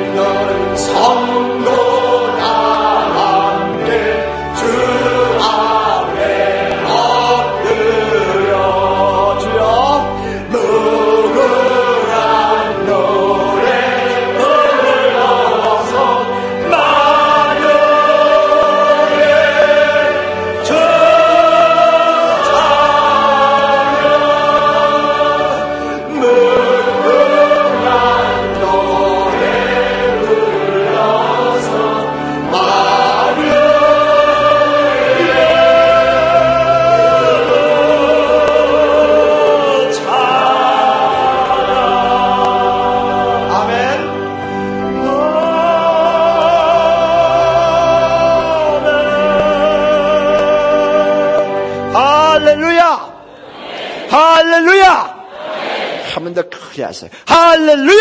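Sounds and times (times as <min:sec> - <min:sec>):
congregation and choir singing: 0:00.0 - 0:56.3.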